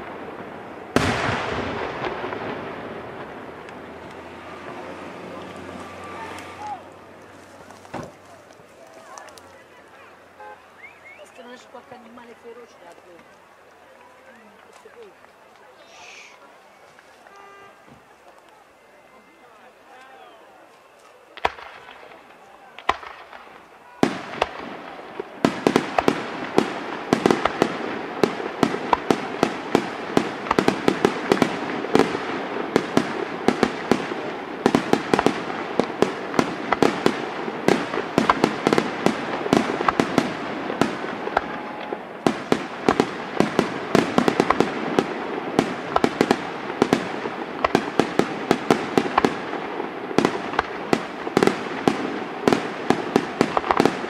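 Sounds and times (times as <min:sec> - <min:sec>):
rumbling crackle: 0:00.0 - 0:15.8, 0:21.0 - 0:54.0
fireworks bangs: 0:00.0 - 0:54.0.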